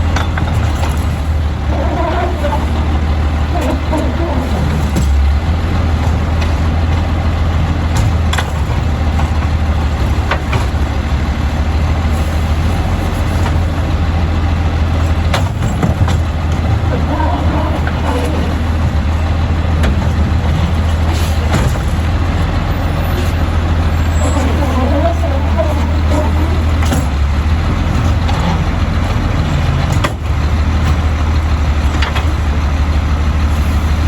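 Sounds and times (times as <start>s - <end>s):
garbage truck engine running: 0.0s - 34.0s.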